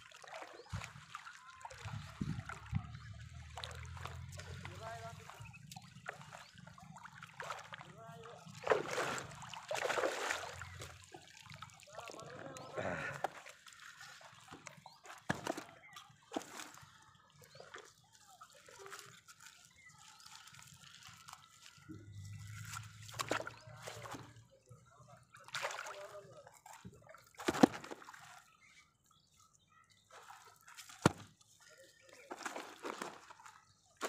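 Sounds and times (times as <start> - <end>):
water dripping and sloshing: 0.0 - 34.0.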